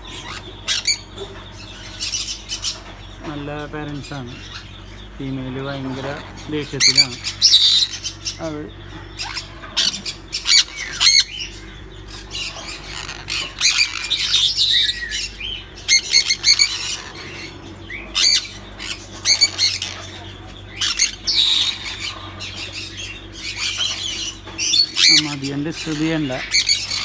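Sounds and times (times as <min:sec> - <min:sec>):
parrots squawking harshly: 0:00.0 - 0:03.3, 0:03.9 - 0:27.0.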